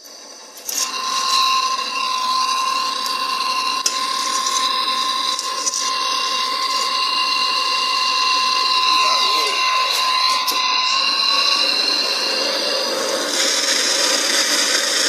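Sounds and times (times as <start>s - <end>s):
gas torch hissing and whistling: 0.0s - 15.0s.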